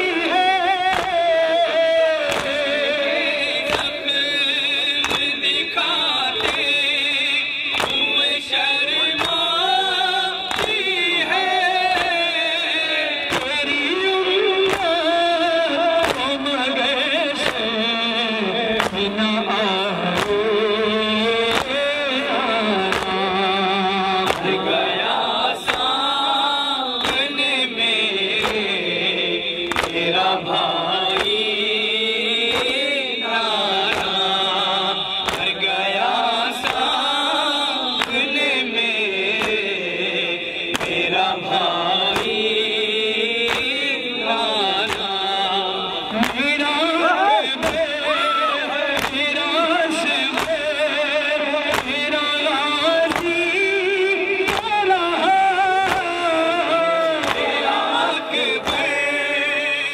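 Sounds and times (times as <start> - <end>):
man chanting through loudspeaker: 0.0 - 59.9
sharp rhythmic strikes: 0.0 - 59.9.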